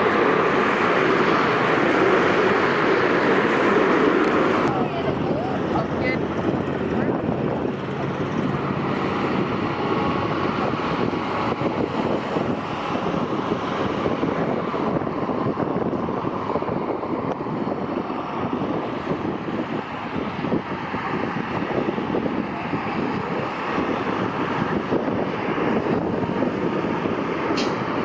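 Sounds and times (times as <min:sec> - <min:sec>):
highway traffic rumble: 0:00.0 - 0:28.0
wind buffeting microphone: 0:00.0 - 0:28.0.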